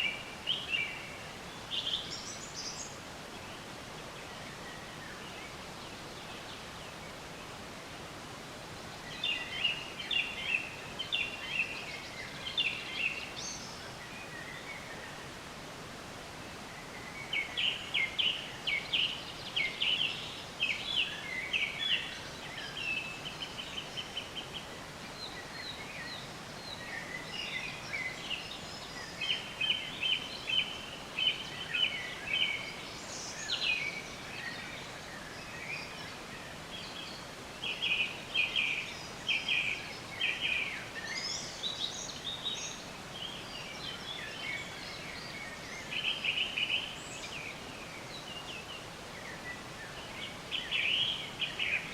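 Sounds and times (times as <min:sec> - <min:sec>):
outdoor ambience hiss: 0:00.0 - 0:51.9
songbirds chirping and trilling: 0:00.0 - 0:51.9.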